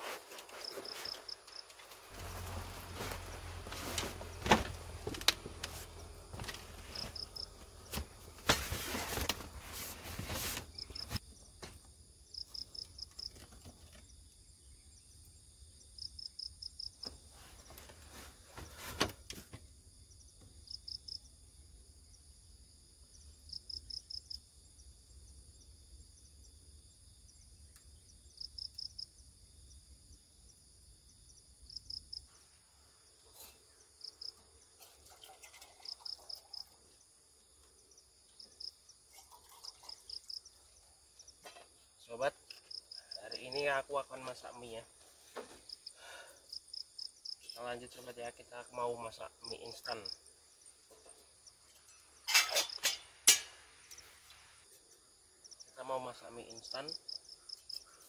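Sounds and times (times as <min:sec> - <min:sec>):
crickets chirping: 0:00.0 - 0:58.0
high insect hum: 0:00.1 - 0:58.0.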